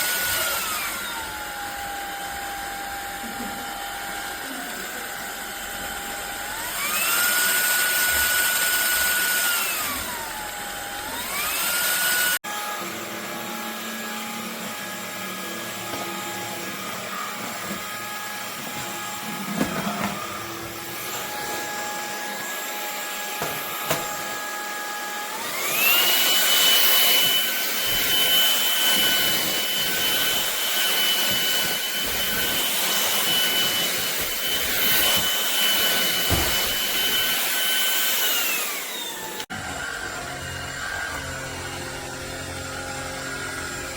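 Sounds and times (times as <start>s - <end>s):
vacuum motor whine: 0.0s - 43.9s.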